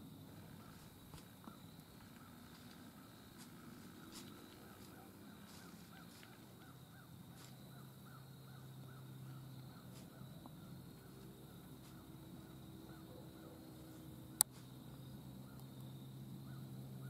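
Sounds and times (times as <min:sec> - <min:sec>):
distant bird calling: 0:00.0 - 0:17.0.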